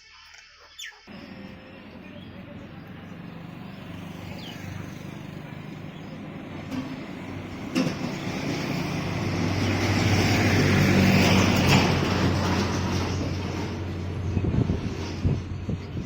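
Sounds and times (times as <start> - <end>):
vehicle passing by: 1.1 - 16.0.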